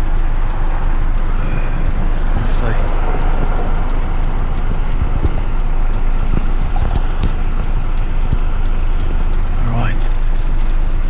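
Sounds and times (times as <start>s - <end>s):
diesel truck engine rumbling: 0.0s - 11.0s
faint ticks: 0.0s - 11.0s.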